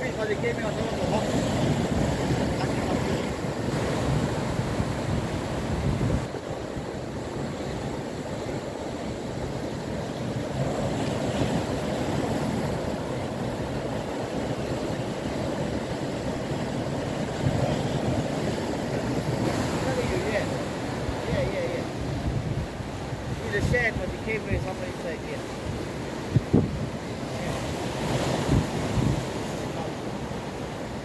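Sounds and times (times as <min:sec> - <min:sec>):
wind rumbling on microphone: 0:00.0 - 0:24.9, 0:25.5 - 0:31.0
surf breaking over rocks: 0:00.0 - 0:31.0.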